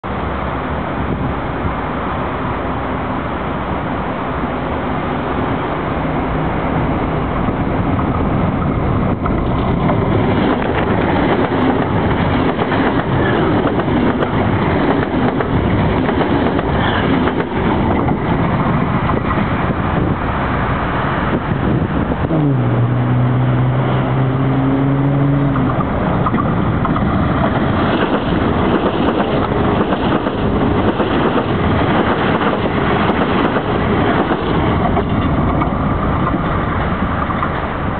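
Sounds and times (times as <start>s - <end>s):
train rumble and wheel noise: 0.0s - 37.9s
wind buffeting microphone: 3.8s - 37.9s.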